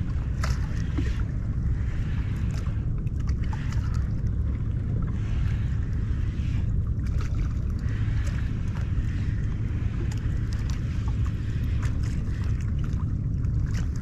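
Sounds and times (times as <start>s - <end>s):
water washing around kayak: 0.0s - 14.0s
wind buffeting microphone: 0.0s - 14.0s.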